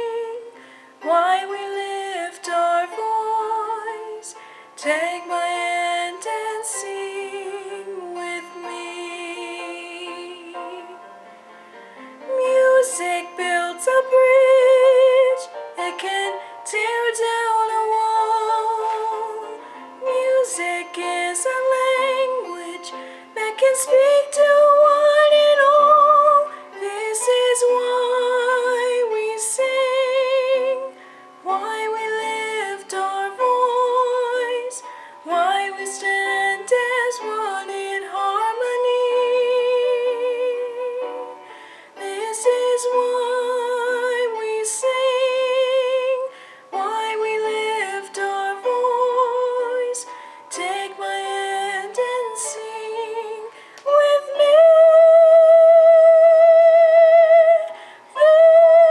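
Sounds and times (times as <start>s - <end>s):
woman singing with vibrato: 0.0s - 11.2s, 12.2s - 58.9s
light accompaniment: 0.0s - 58.9s.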